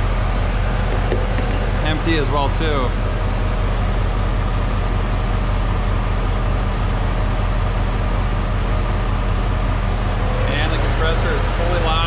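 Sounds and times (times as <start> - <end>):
air conditioning compressor rushing: 0.0 - 12.0
car engine idling: 0.0 - 12.0.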